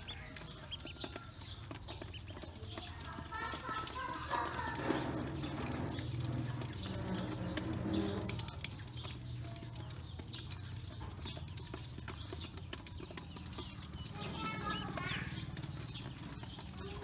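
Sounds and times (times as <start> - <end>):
bills clicking on metal bowl: 0.0 - 17.0
ducklings peeping: 0.0 - 17.0.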